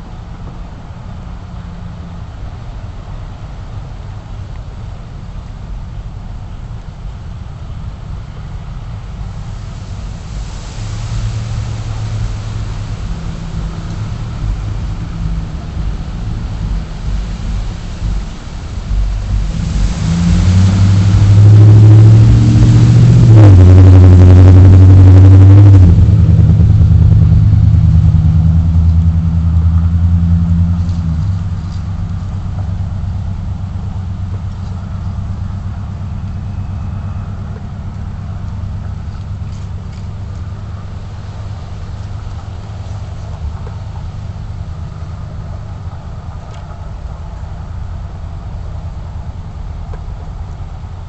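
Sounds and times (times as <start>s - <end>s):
steady low hum: 0.0s - 51.0s
vehicle engine running: 0.0s - 51.0s.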